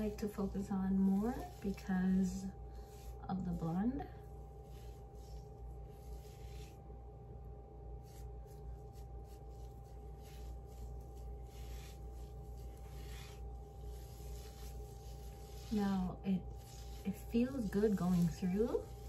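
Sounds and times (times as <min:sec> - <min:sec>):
hands rubbing wet hair: 0:00.0 - 0:07.1, 0:07.8 - 0:19.0
electrical hum: 0:00.0 - 0:19.0.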